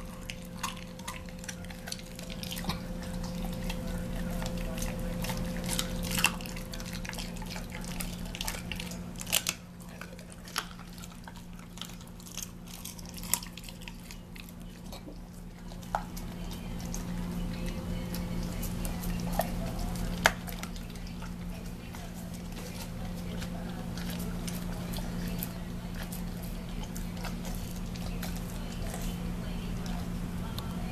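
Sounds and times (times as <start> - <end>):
dog licking and chewing: 0.0 - 30.9
steady low hum: 0.0 - 30.9.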